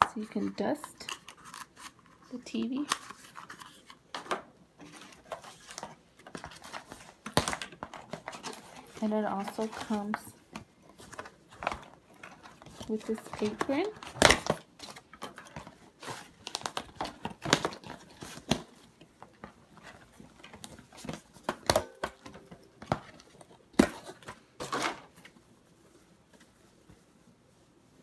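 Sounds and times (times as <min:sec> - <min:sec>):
packaging rustling and crinkling: 0:00.1 - 0:27.8.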